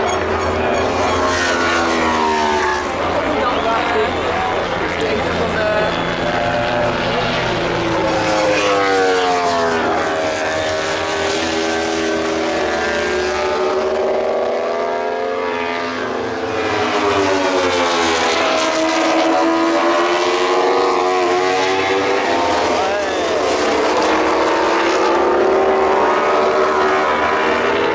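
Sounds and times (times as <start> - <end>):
racing motorcycle engines: 0.0 - 27.9.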